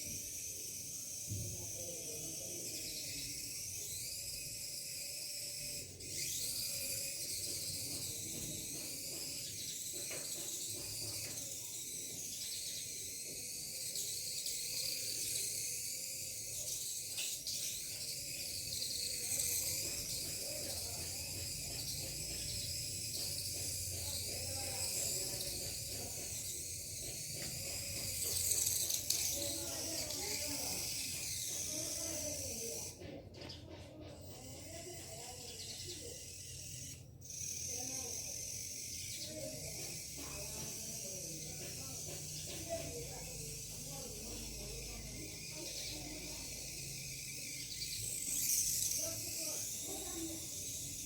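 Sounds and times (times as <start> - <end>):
toy car electric motor whining: 0.0 - 51.0.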